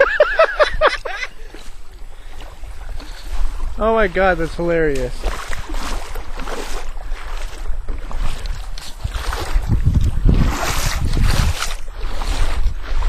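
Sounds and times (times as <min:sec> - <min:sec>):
water splashing and sloshing: 0:00.0 - 0:13.0
wind gusting on microphone: 0:00.0 - 0:13.0.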